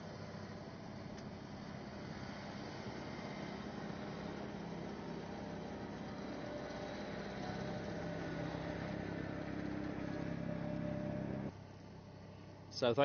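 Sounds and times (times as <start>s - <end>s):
tractor engine running: 0.0s - 11.5s.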